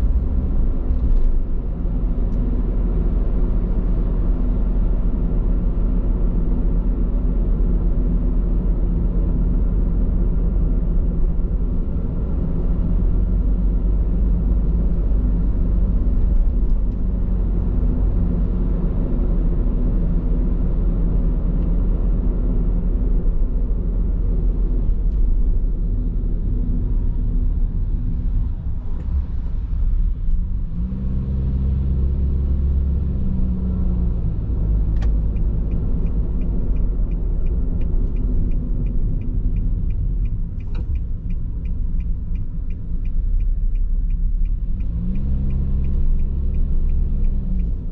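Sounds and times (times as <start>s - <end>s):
car engine hum: 0.0s - 47.9s.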